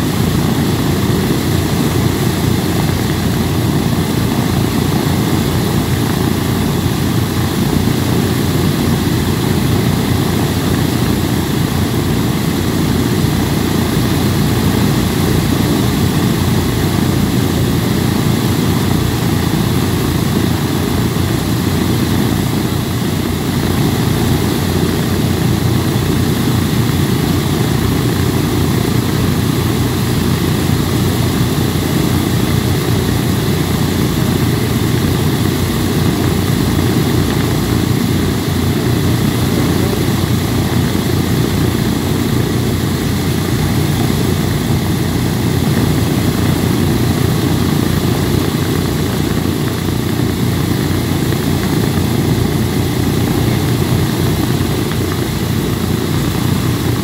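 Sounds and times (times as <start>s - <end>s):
propeller engines rumbling: 0.0s - 57.0s.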